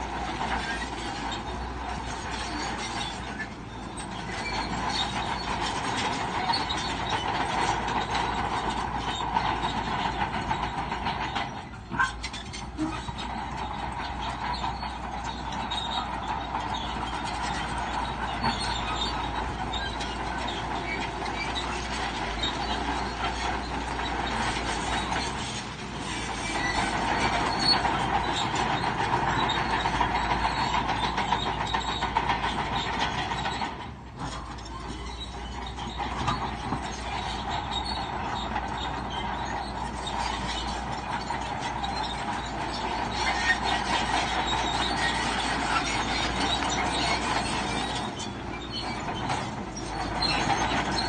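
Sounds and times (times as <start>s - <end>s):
bulldozer engine running: 0.0s - 51.0s
steel tracks clanking and squealing: 0.0s - 51.0s.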